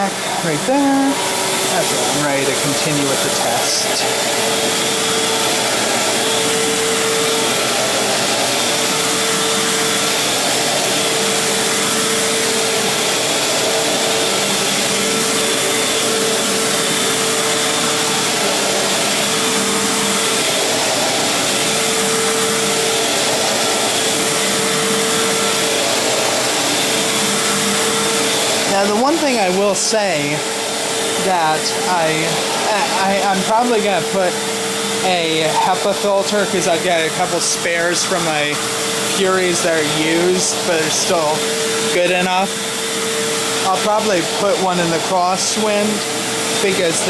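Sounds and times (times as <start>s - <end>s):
vacuum cleaner running: 0.0s - 47.0s.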